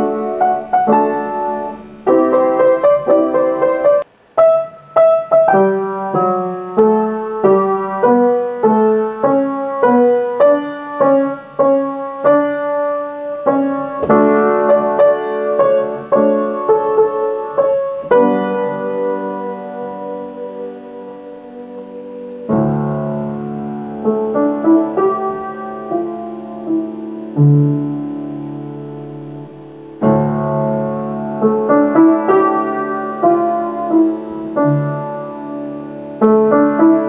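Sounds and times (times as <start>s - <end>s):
piano playing slow melody: 0.0s - 37.0s.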